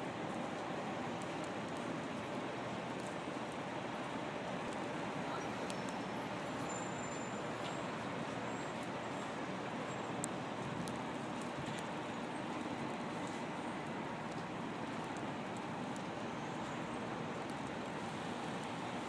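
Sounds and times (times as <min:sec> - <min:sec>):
city street traffic hum: 0:00.0 - 0:19.0.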